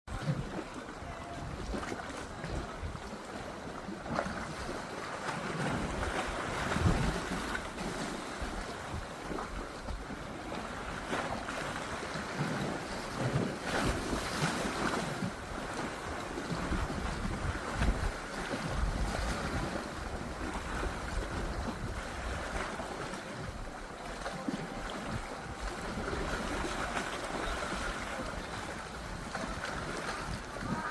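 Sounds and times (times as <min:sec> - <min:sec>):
water splashing around boat: 0:00.1 - 0:30.9
wind buffeting microphone: 0:05.5 - 0:30.9.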